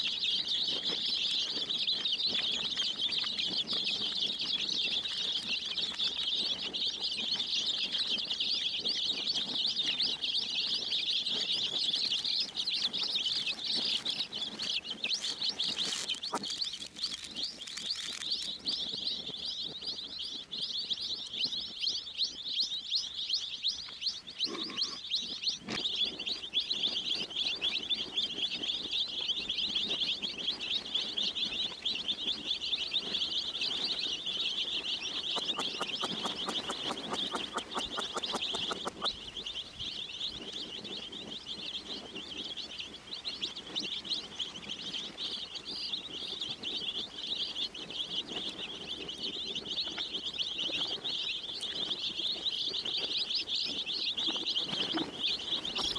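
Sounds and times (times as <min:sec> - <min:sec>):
baby chicks peeping: 0:00.0 - 0:55.9.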